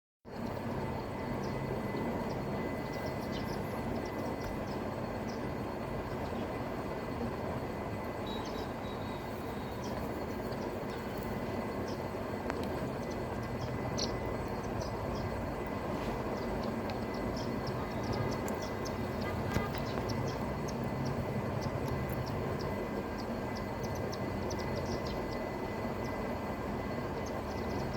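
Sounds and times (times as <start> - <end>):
steady low rumble: 0.3 - 27.9
sparrows chirping: 1.0 - 27.9.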